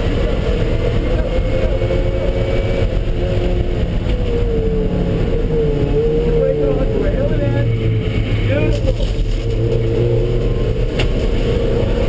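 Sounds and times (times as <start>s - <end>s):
car engine running at speed: 0.0s - 12.0s
low road rumble: 0.0s - 12.0s.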